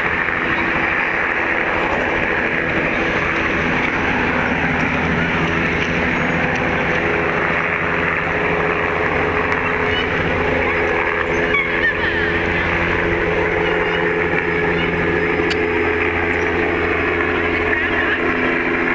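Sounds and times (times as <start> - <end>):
helicopter rotor and engine: 0.0 - 18.9.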